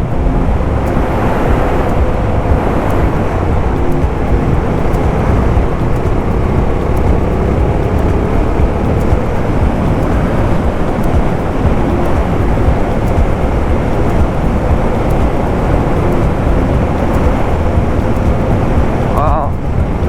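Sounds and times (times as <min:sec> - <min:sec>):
motorcycle engine running: 0:00.0 - 0:20.0
wind rushing: 0:00.0 - 0:20.0.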